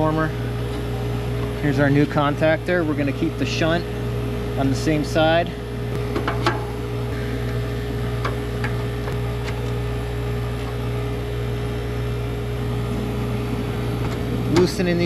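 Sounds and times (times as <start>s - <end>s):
vacuum pump droning: 0.0s - 15.0s.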